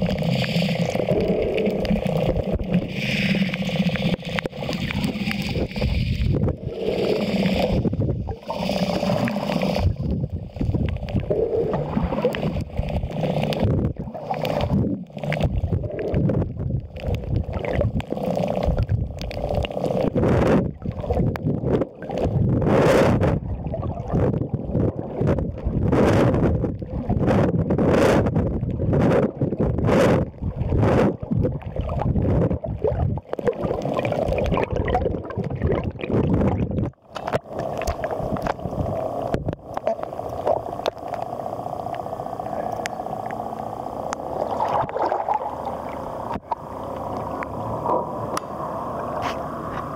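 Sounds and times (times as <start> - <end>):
underwater rushing and gurgling: 0.0 - 49.9.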